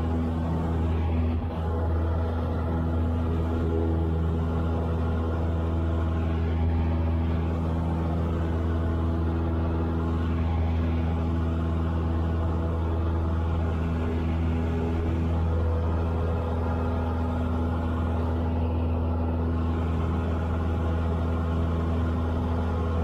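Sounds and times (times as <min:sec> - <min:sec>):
aircraft engine and propeller droning: 0:00.0 - 0:23.0.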